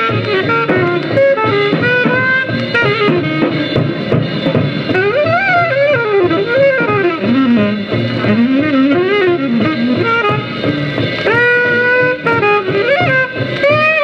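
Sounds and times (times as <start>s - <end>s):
bebop jazz from a vinyl record: 0.0s - 14.0s.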